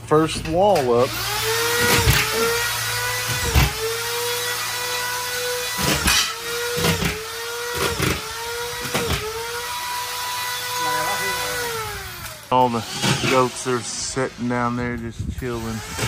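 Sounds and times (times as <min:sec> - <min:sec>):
machine whining: 0:00.0 - 0:16.0.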